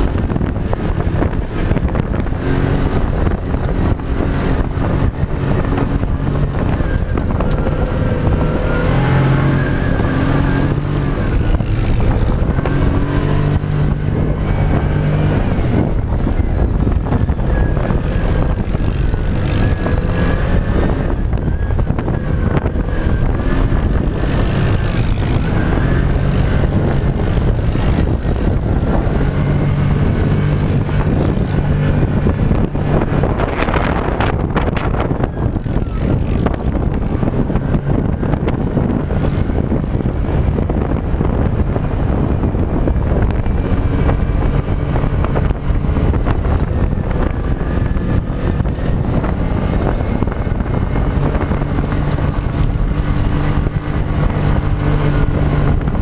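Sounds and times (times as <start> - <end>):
dune buggy engine running: 0.0 - 56.0
rush of noise: 0.0 - 56.0.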